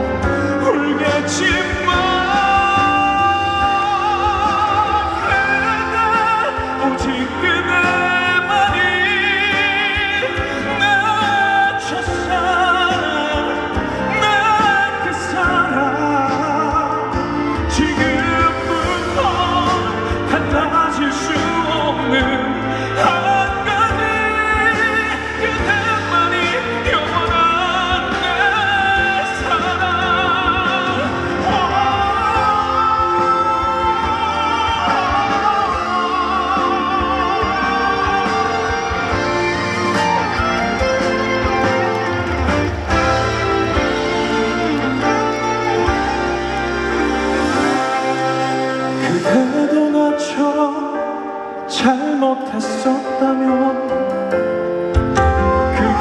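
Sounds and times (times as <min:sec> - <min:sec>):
band accompaniment: 0:00.0 - 0:56.0
keyboard chords: 0:00.0 - 0:56.0
man singing a ballad: 0:00.0 - 0:56.0.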